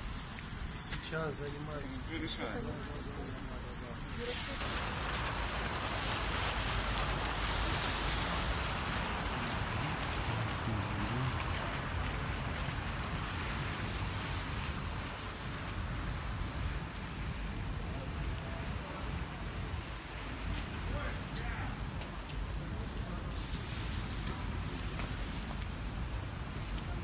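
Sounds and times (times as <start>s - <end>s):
fountain water jets splashing: 0.0s - 27.0s.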